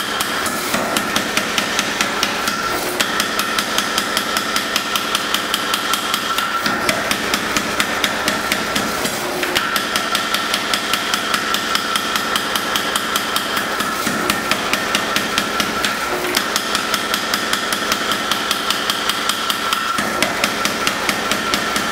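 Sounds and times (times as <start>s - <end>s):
hammer striking hot steel: 0.0s - 21.9s.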